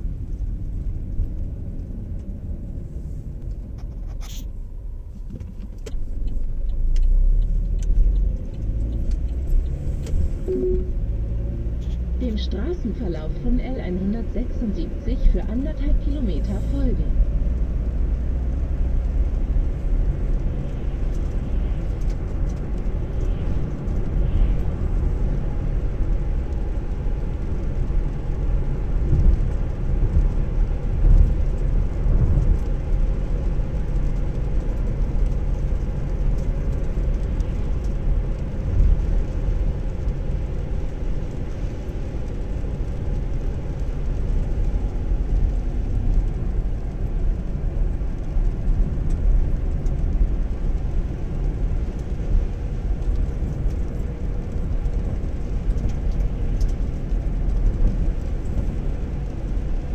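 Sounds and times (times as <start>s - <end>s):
car driving on wet road: 0.0s - 59.9s
tyre and engine noise: 3.4s - 59.9s.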